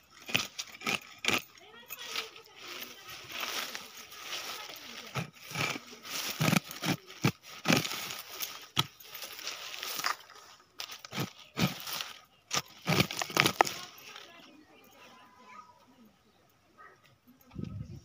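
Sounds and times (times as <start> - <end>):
hand hoe scraping dry soil: 0.0 - 14.5
dry weed stalks rustling: 0.0 - 15.3.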